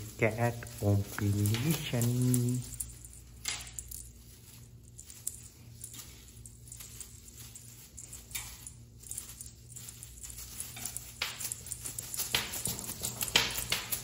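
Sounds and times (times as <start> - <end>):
cat toy swishing: 0.0 - 14.0
low steady hum: 0.0 - 14.0.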